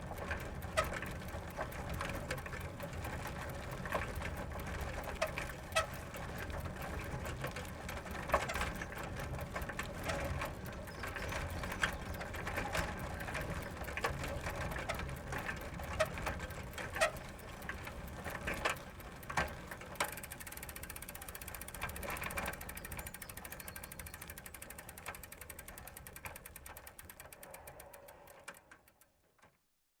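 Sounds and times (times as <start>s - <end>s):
bicycle tyres crunching gravel: 0.0s - 28.4s
freewheel ticking: 0.0s - 29.2s.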